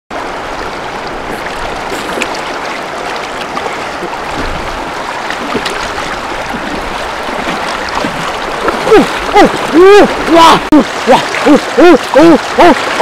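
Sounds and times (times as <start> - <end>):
small water splashes: 0.1 - 13.0
stream flowing over stones: 0.1 - 13.0.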